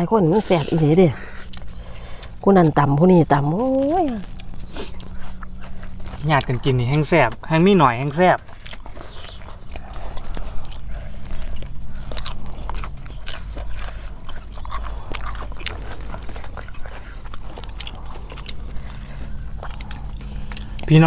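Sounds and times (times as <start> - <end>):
low hum: 0.0 - 21.0
people chewing crunchy food: 0.0 - 21.0.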